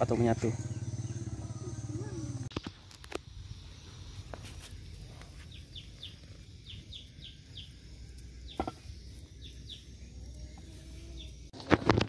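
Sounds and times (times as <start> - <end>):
bird chirping: 0.0 - 2.8, 3.4 - 11.5.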